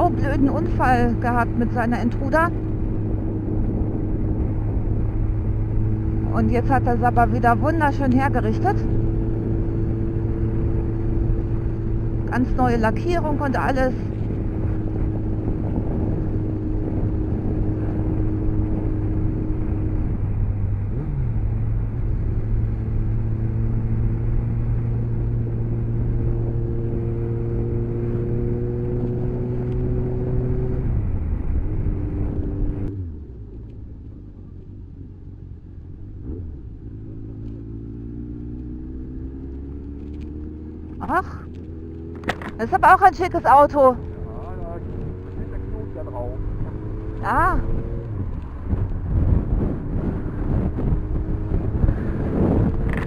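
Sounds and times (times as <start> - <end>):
wind on microphone: 0.0 - 32.9, 40.0 - 53.0
motorcycle engine: 0.0 - 53.0.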